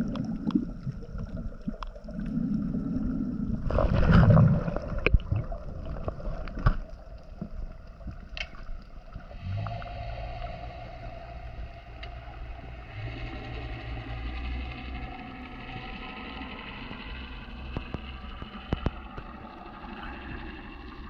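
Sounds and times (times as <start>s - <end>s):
steady low hum: 0.0s - 21.0s
underwater rush of water: 0.0s - 21.0s.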